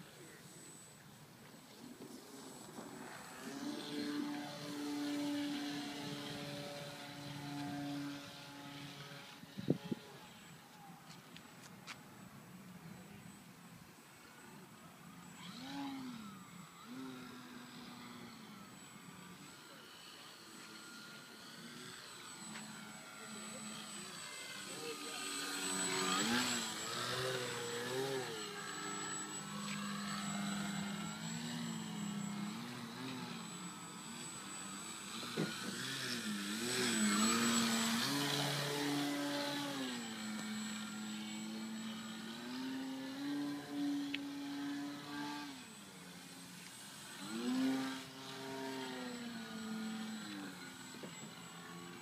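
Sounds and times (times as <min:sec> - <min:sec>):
model aircraft motor buzzing: 0:00.0 - 0:52.0.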